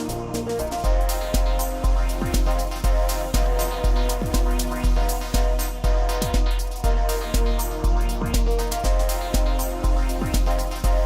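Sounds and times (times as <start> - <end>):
heavy bass beat: 0.0 - 11.0.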